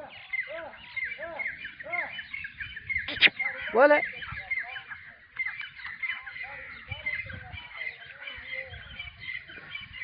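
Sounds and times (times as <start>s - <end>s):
birds chirping: 0.0s - 10.0s
lower bird calls: 0.0s - 10.0s.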